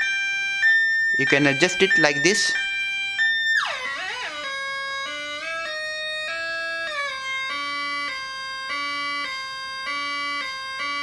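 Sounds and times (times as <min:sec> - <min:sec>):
two-tone electronic siren: 0:00.0 - 0:11.0.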